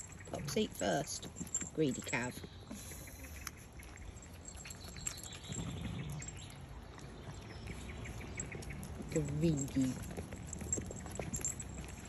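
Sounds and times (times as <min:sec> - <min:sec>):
puppy chewing and licking: 0:00.0 - 0:12.0.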